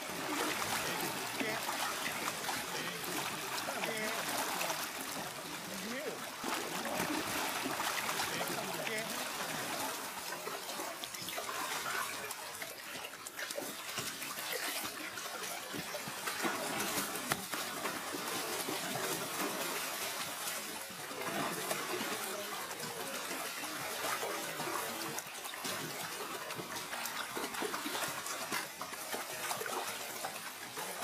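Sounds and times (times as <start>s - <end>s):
fish splashing in water: 0.0s - 31.0s.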